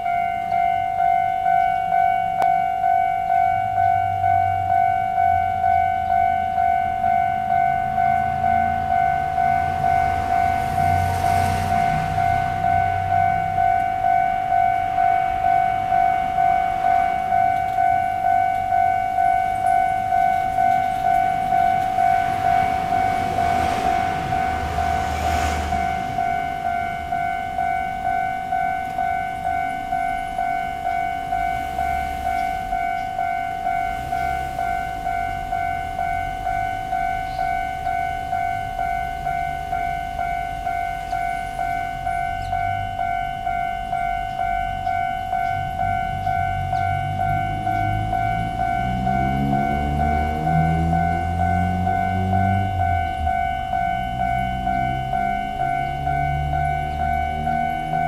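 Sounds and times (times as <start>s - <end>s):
level crossing warning bell: 0.0s - 58.0s.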